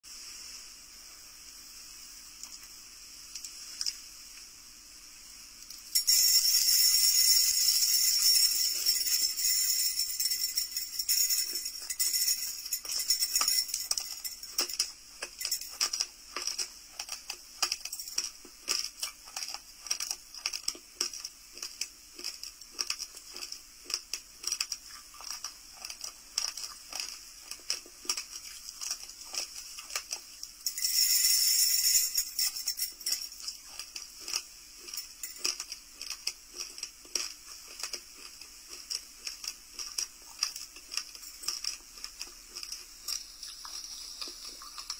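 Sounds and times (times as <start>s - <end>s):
rice crunched between teeth: 6.7s - 44.9s.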